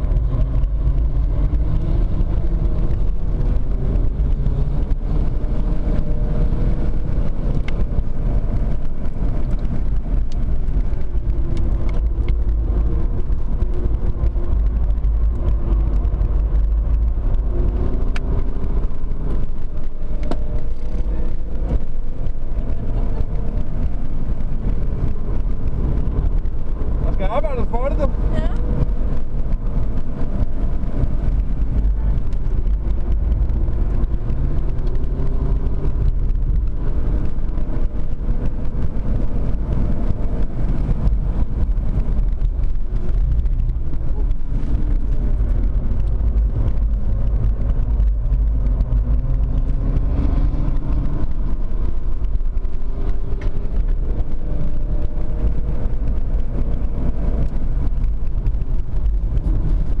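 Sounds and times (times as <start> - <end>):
diesel car engine accelerating: 0.0 - 60.0
road and tyre rumble: 0.0 - 60.0.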